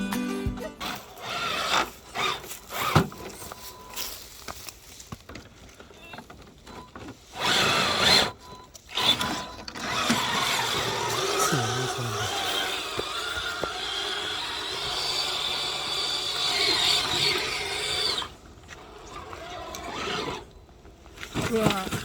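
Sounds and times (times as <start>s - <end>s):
rc truck motor and tyre noise: 0.8s - 22.0s.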